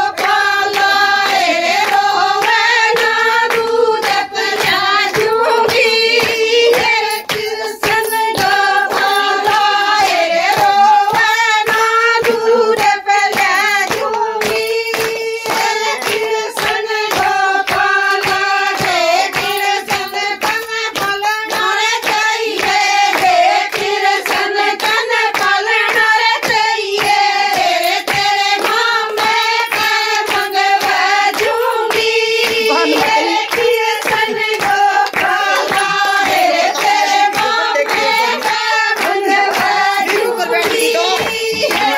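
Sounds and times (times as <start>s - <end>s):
hands clapping a steady beat: 0.0s - 41.9s
women singing folk song: 0.0s - 41.9s.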